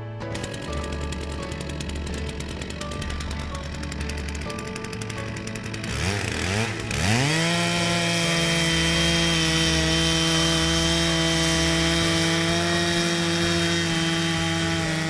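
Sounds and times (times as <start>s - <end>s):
chainsaw revving and cutting wood: 0.0s - 15.0s.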